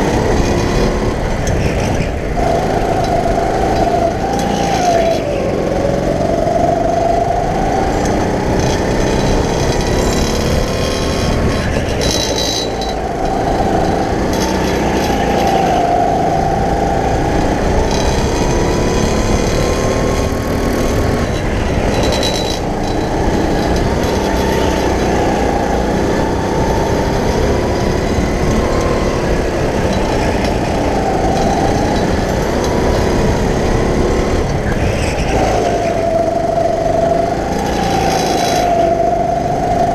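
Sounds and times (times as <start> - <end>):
go-kart motor revving: 0.0 - 39.9.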